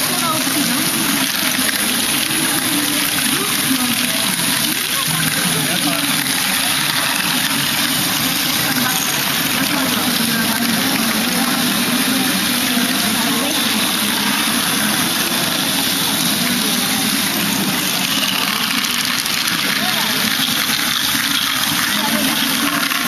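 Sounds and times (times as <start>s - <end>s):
plastic balls clattering in machine: 0.0s - 23.0s.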